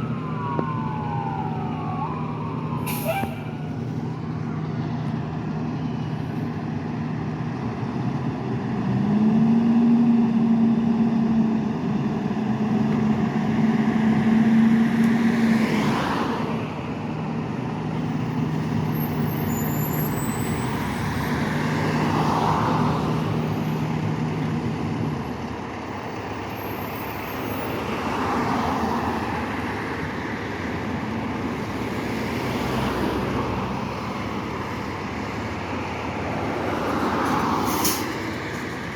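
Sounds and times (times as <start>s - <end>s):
fire engine engine droning: 0.0s - 38.9s.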